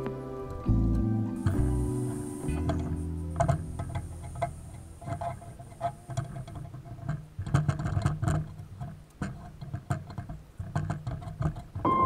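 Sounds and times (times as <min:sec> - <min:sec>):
spreader scraping and tapping metal: 0:01.4 - 0:11.9.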